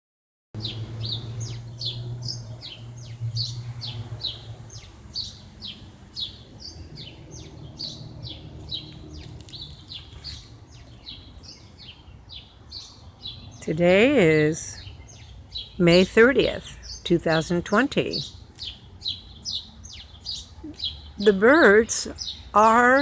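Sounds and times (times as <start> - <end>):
birds chirping: 0.6 - 23.0.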